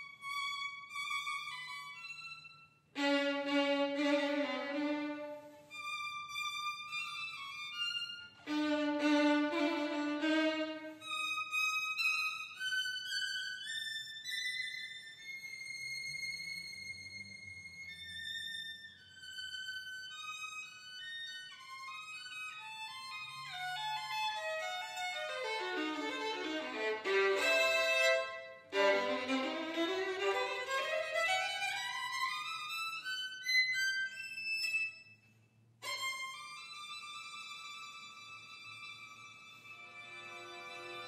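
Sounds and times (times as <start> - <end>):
violin playing fast scale runs: 3.0 - 34.8, 35.8 - 41.0.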